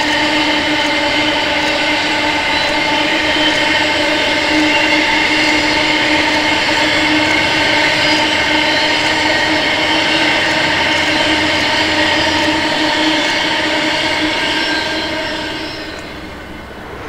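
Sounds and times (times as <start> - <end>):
train rumble: 0.0 - 17.0
train wheels whining: 0.0 - 17.0.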